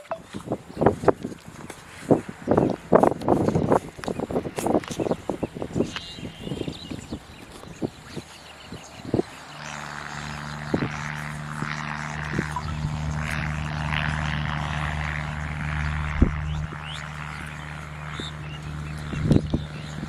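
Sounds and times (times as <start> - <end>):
engine droning: 1.6 - 20.0.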